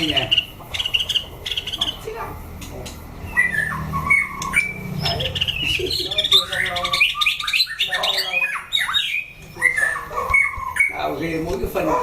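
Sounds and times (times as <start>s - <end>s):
bird song of whistles and chirps: 0.0s - 2.0s, 3.3s - 11.1s.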